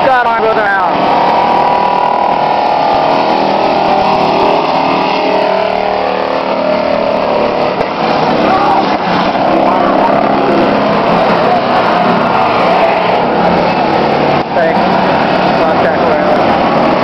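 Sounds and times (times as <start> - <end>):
race truck engines roaring: 0.0 - 17.0.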